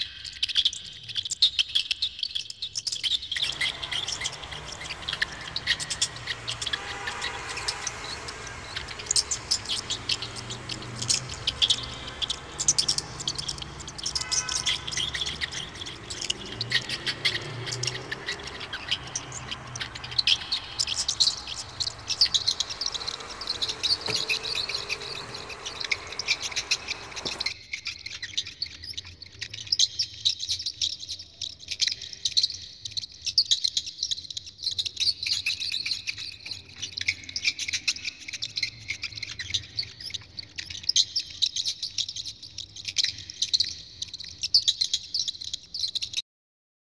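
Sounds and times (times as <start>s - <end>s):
hamsters squeaking: 2.3s - 46.2s.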